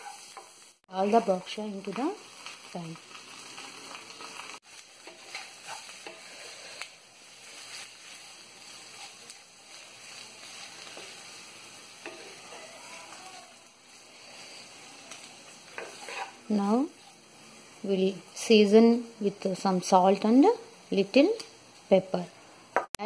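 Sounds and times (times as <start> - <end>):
spatula scraping wok: 0.0 - 18.8
vegetables sizzling in oil: 0.0 - 23.0.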